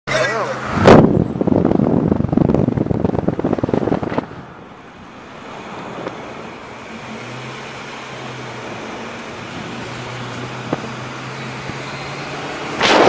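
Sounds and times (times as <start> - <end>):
car engine revving: 0.1 - 13.0
engine running with low hum: 0.3 - 13.0.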